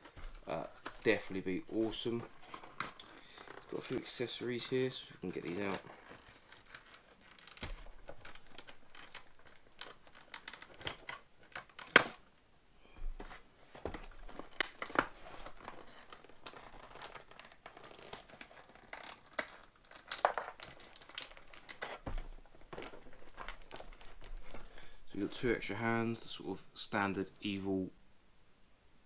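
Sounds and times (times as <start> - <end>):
plastic packaging crinkling: 0.0 - 12.2, 13.8 - 25.4.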